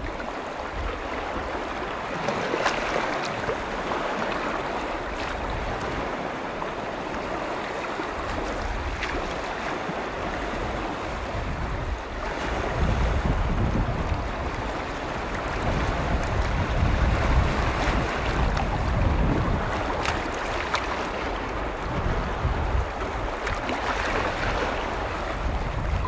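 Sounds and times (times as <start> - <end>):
lake waves washing: 0.0 - 26.0
wind rumbling on microphone: 0.0 - 26.0.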